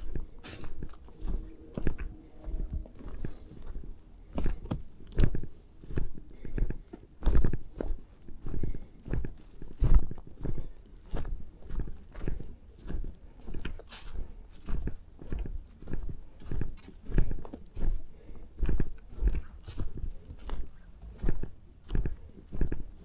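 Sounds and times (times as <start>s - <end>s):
footsteps crunching through undergrowth: 0.0s - 23.0s.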